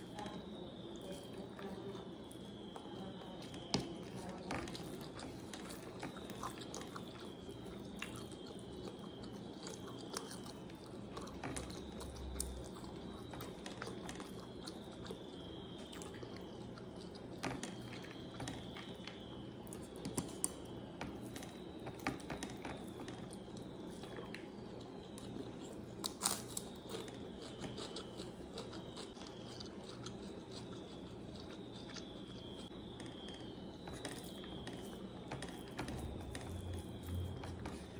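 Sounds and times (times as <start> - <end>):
chewing food: 0.0 - 37.9
steady low hum: 0.0 - 37.9.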